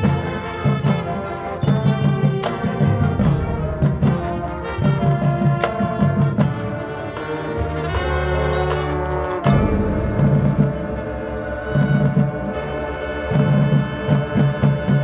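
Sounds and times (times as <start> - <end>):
marching band playing: 0.0 - 15.0
pounding low drums: 0.0 - 15.0.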